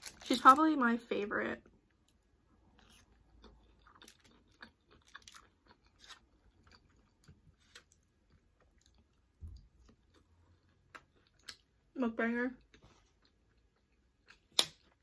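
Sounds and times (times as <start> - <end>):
chewing crunchy nachos: 1.9 - 11.9, 12.6 - 15.0.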